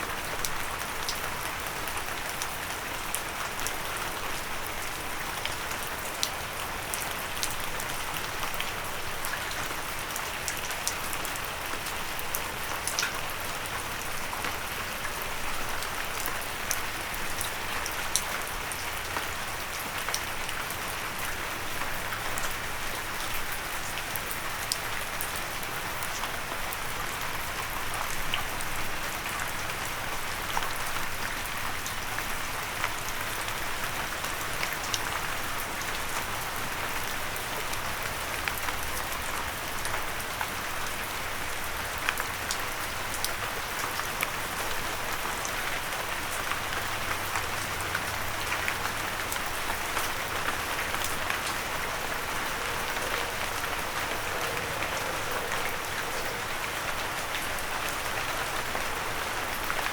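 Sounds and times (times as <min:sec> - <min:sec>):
hiss of downpour: 0:00.0 - 0:59.9.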